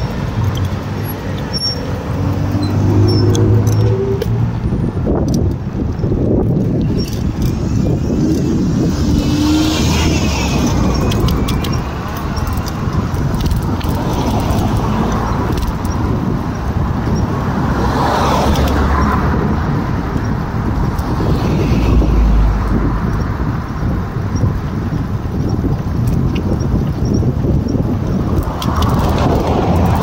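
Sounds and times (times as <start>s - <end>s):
cars passing: 0.0s - 30.0s
wind and road noise rumble: 0.0s - 30.0s.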